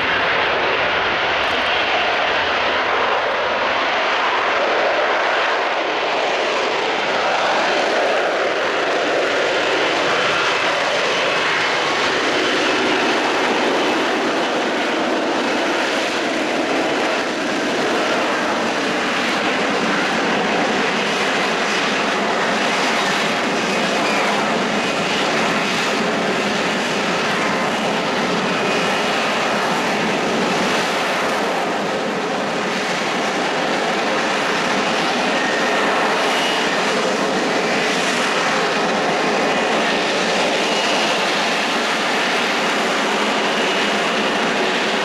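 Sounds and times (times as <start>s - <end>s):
jet engine noise: 0.0s - 45.0s.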